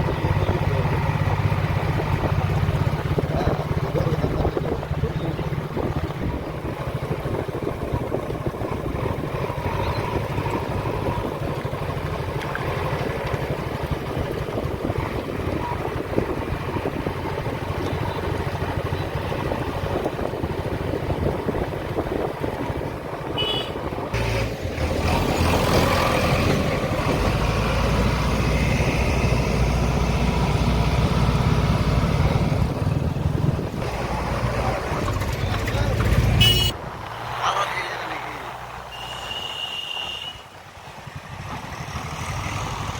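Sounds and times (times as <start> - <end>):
vehicle engine running: 0.0 - 36.8.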